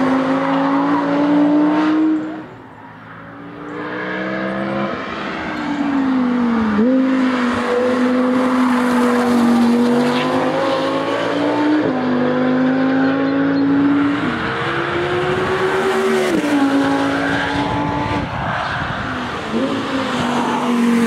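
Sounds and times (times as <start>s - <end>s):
race car engine passing: 0.0s - 21.0s.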